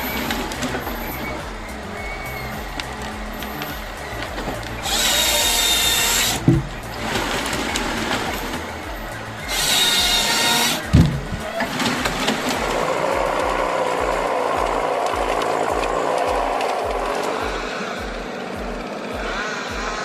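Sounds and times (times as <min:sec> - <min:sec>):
background music with steady beat: 0:00.0 - 0:20.0
heavy thump: 0:00.2 - 0:20.0.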